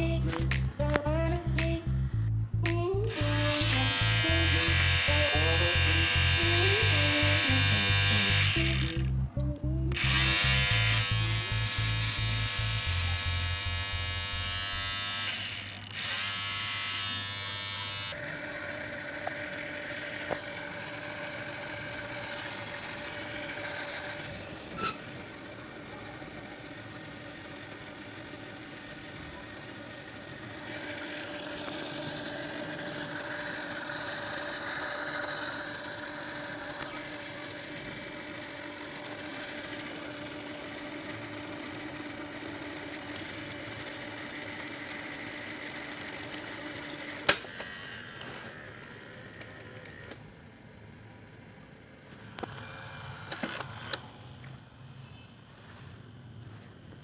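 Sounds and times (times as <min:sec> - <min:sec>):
small electric motor humming: 0:00.0 - 0:55.2.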